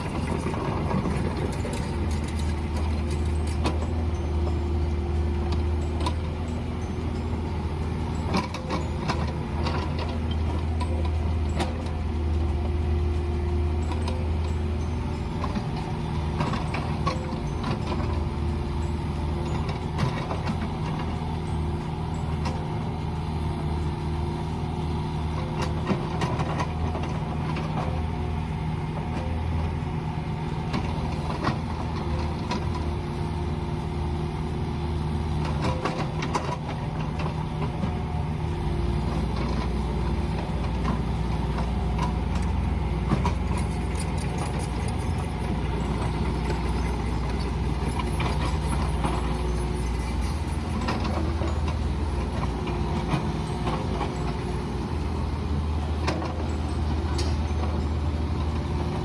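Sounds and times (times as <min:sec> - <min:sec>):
mini excavator engine running: 0:00.0 - 0:59.0.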